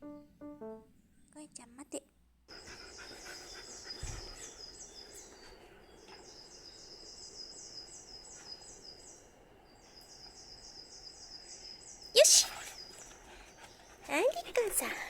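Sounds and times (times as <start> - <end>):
cicadas chorus: 2.5 - 15.0.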